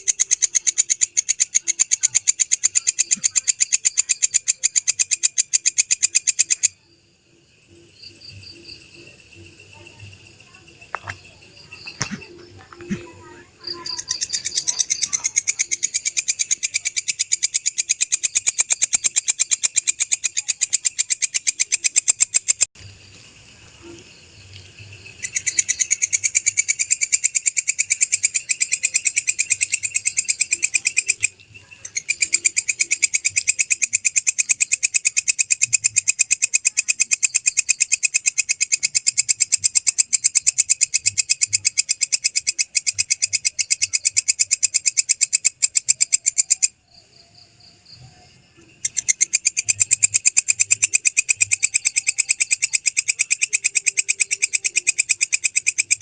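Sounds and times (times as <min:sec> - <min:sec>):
bush cricket stridulating: 0:00.0 - 0:56.0.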